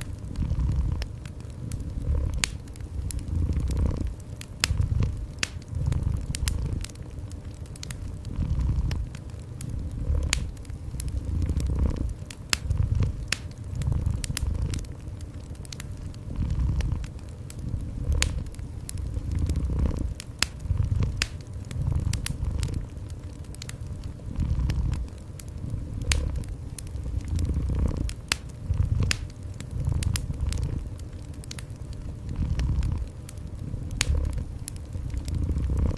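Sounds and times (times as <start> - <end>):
cat purring: 0.0 - 7.1, 7.7 - 14.9, 15.7 - 22.9, 24.3 - 31.6, 32.2 - 33.1, 34.0 - 35.9
wood fire crackling and popping: 0.0 - 35.9.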